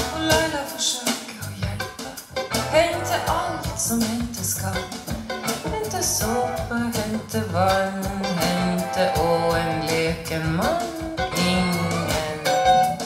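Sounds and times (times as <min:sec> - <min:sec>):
steady bass: 0:00.0 - 0:00.6, 0:01.4 - 0:13.0
melodic lead line over speakers: 0:01.5 - 0:13.0.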